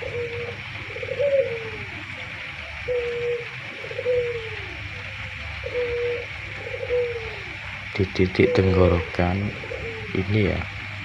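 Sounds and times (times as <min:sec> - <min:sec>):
dove cooing: 0:00.0 - 0:11.0
steady hiss: 0:00.0 - 0:11.0.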